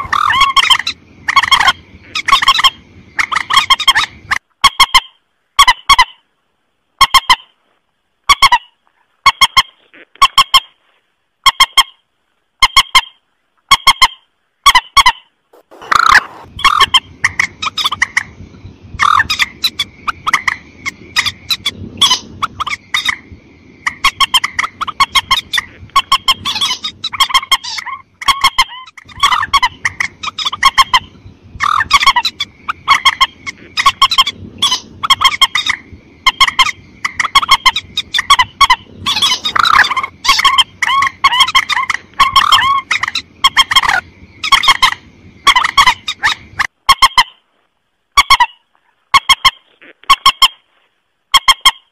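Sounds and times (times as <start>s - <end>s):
rail bird clucking calls: 0.0s - 6.2s, 8.3s - 10.8s, 11.4s - 12.0s, 12.6s - 47.4s, 48.2s - 50.6s, 51.3s - 51.9s.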